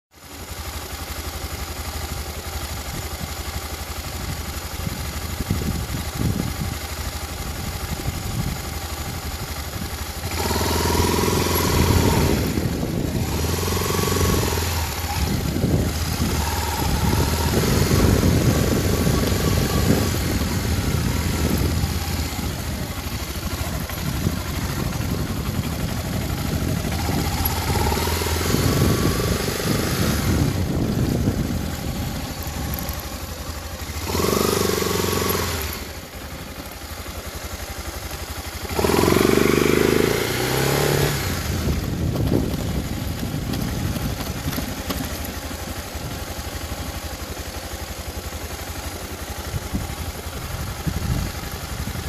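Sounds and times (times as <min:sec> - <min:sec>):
motorcycle engine revving: 0:00.2 - 0:52.0.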